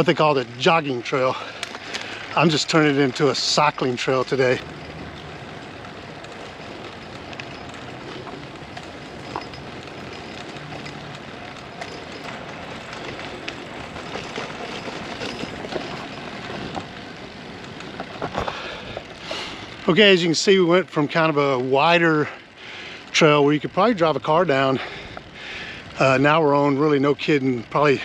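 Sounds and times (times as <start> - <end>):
bike clicks and rattles: 0.0 - 28.0
bike tyres rolling on dirt: 0.0 - 28.0.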